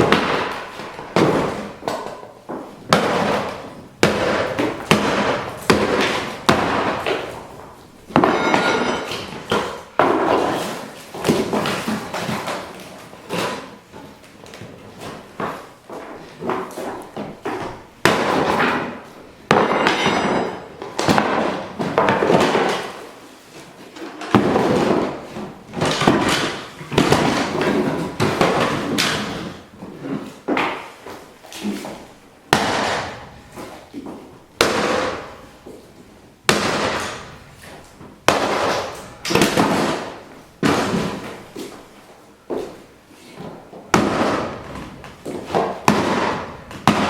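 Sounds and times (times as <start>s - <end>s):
boxes crashing and breaking: 0.0s - 13.8s, 14.7s - 23.1s, 24.2s - 41.9s, 43.4s - 47.0s.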